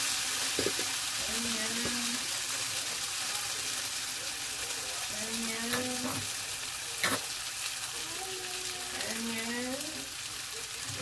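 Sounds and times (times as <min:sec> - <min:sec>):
potatoes and onion sizzling in a pan: 0:00.0 - 0:11.0.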